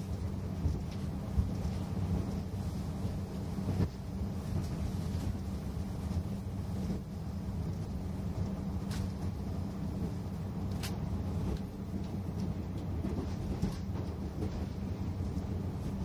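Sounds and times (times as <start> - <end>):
diesel engine drone: 0.0 - 16.0
train running rumble: 0.0 - 16.0.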